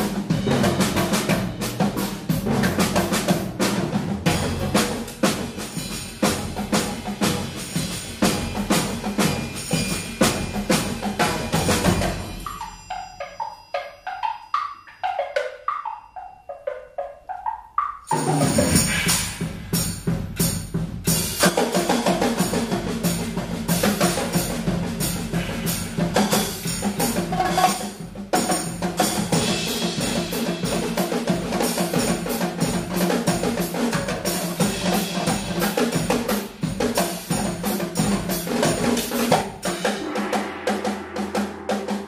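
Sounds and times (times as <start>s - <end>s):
percussion ensemble drumming: 0.0s - 42.0s
rototom drums solo: 0.0s - 42.0s.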